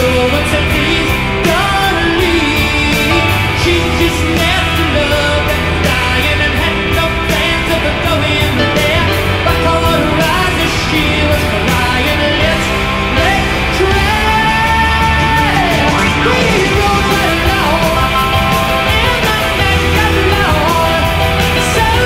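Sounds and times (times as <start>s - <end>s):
rock music with singer: 0.0s - 22.0s.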